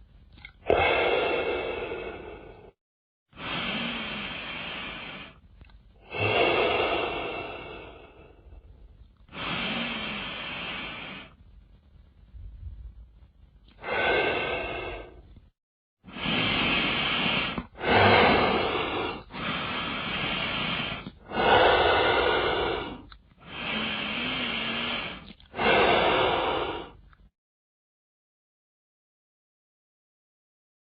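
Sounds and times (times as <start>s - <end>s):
slowed deep breathing: 0.6s - 27.2s.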